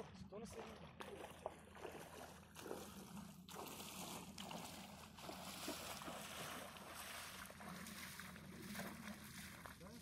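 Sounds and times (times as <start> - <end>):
water lapping at shore: 0.0 - 10.0.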